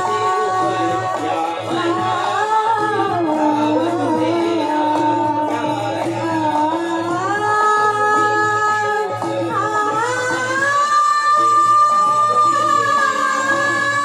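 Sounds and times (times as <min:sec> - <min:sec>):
instrumental accompaniment: 0:00.0 - 0:14.0
woman singing: 0:00.0 - 0:14.0.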